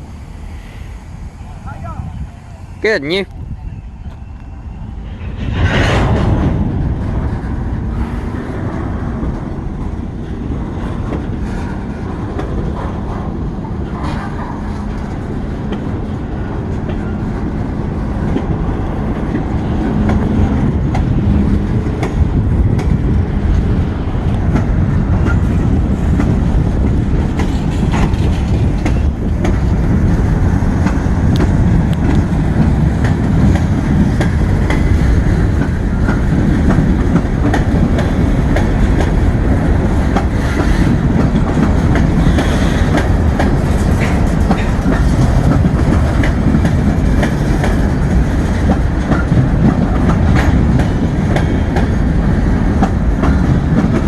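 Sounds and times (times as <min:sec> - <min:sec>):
freight train rumbling: 0:00.0 - 0:54.0
wheels clattering over rail joints: 0:05.1 - 0:54.0.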